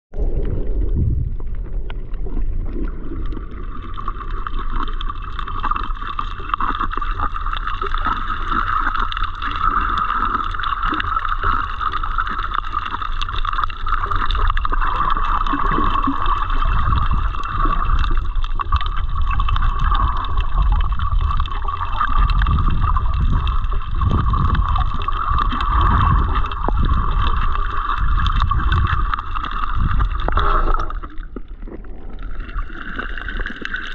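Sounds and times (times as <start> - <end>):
muffled underwater rumbling: 0.1 - 33.9.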